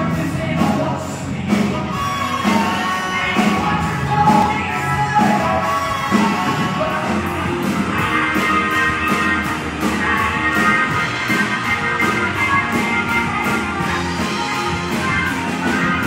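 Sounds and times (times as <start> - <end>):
live rock band playing: 0.0 - 16.0
person singing lead vocal: 0.0 - 16.0.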